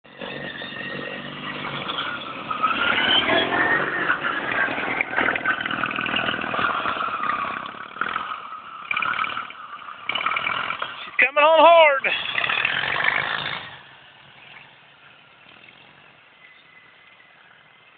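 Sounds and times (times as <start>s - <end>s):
lawn mower engines racing: 0.1s - 17.9s.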